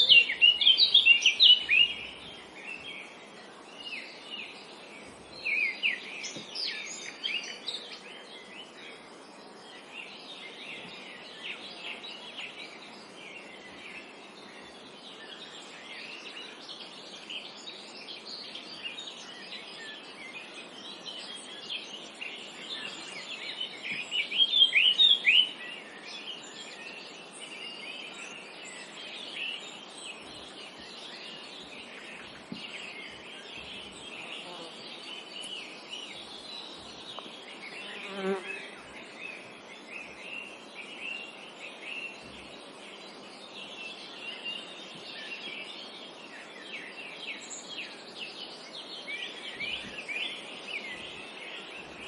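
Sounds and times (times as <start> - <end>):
small birds chirping: 0.0 - 52.0
steady background hiss: 0.0 - 52.0.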